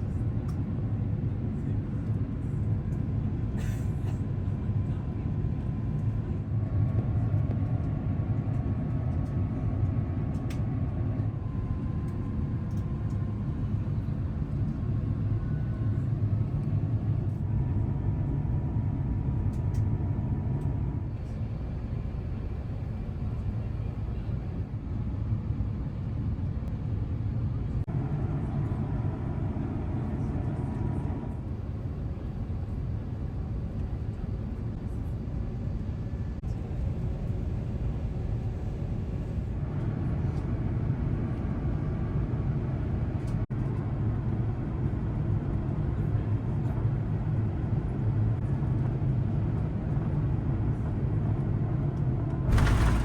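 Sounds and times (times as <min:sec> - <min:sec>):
faint engine tones: 0:00.0 - 0:41.5, 0:52.0 - 0:53.0
airplane cabin rumble: 0:00.0 - 0:53.0.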